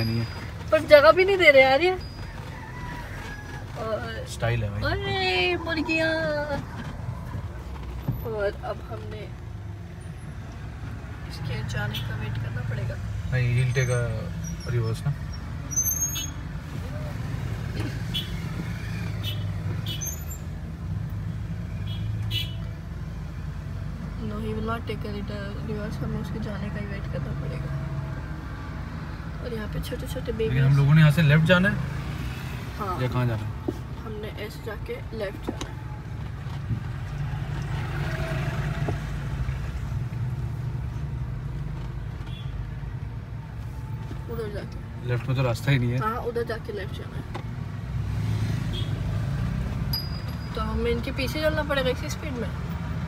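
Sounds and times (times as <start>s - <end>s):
car engine humming: 0.0s - 53.0s.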